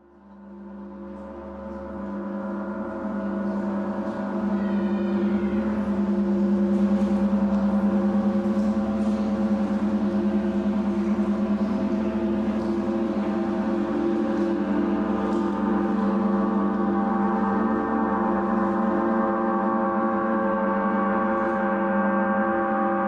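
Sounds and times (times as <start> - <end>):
gong played with mallets: 0.0 - 23.0.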